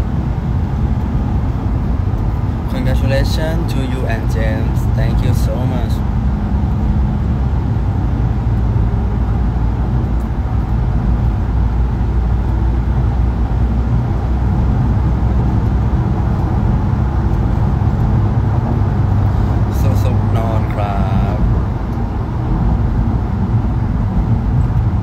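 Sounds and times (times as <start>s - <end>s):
road noise: 0.0s - 25.0s
van engine rumble: 0.0s - 25.0s.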